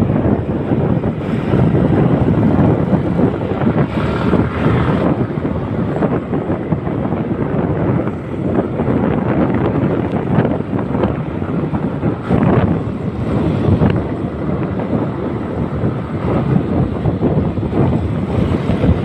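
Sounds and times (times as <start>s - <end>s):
vehicle noise: 0.0s - 19.0s
wind buffeting microphone: 0.0s - 19.0s.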